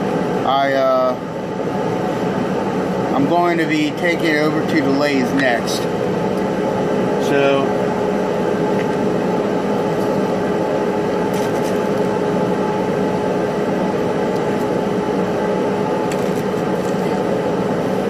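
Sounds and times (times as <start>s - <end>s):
mechanical drone with hum: 0.0s - 18.0s.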